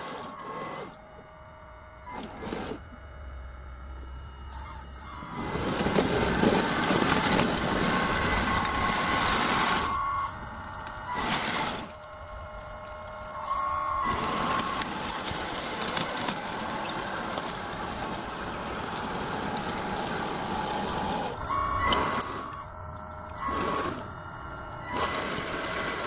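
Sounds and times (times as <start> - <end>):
machine whine: 0.0 - 26.0.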